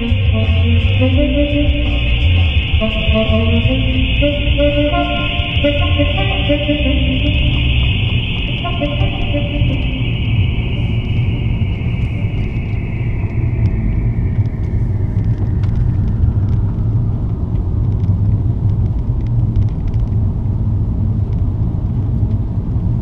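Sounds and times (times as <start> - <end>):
car driving on wet road: 0.0 - 23.0.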